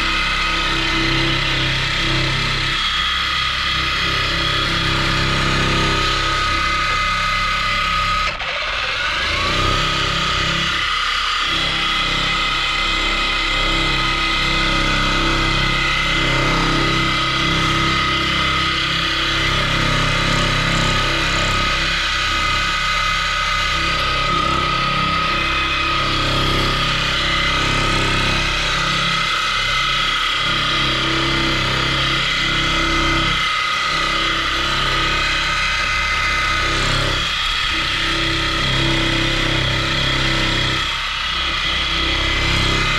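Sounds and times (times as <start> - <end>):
motor whining and rumbling: 0.0 - 42.9.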